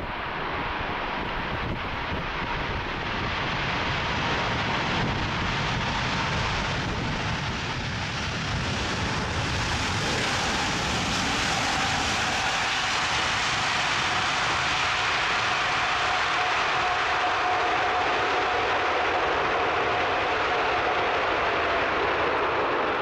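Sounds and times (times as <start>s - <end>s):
jet engines rumbling and roaring: 0.0s - 23.0s
thin engine whine: 0.0s - 23.0s.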